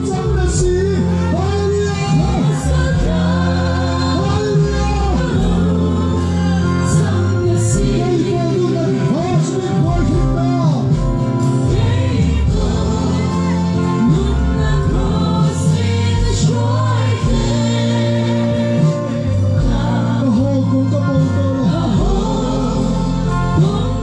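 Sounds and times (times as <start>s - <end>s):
band over loudspeakers: 0.0s - 24.0s
many voices singing together: 0.0s - 24.0s.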